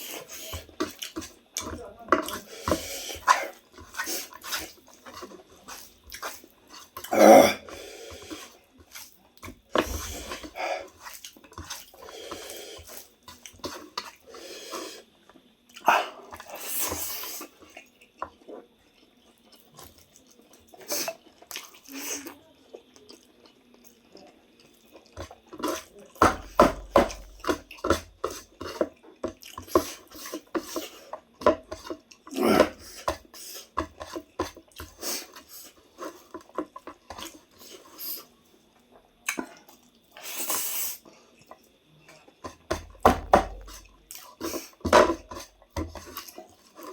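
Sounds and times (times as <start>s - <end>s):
wet chewing: 0.0s - 38.2s, 41.4s - 46.9s.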